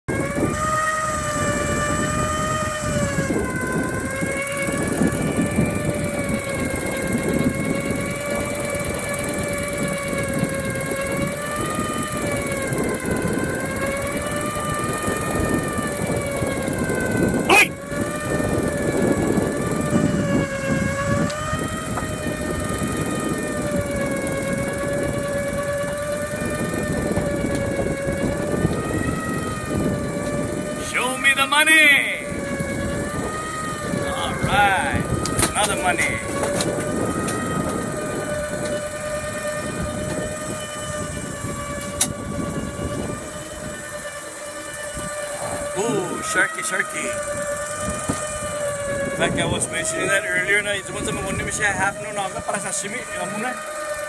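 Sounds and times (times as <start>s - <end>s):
fishing reel motor whining: 0.1s - 54.0s
rough wind: 0.1s - 54.0s
water noise: 0.1s - 54.0s.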